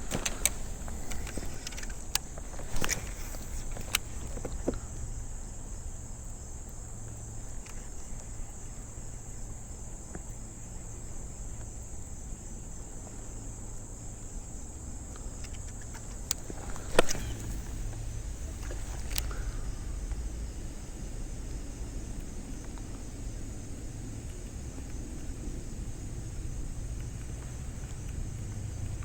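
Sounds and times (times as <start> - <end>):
insects chirring: 0.0 - 29.0
low background rumble: 0.0 - 29.0.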